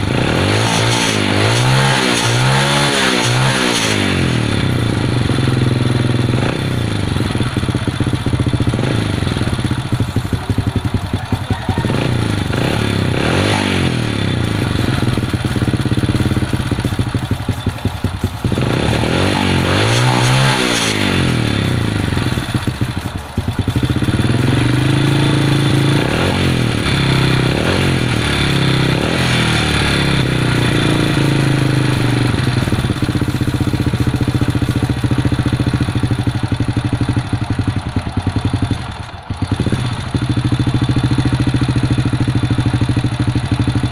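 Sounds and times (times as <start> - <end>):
motorcycle engine revs rising and dropping: 0.0 - 43.9.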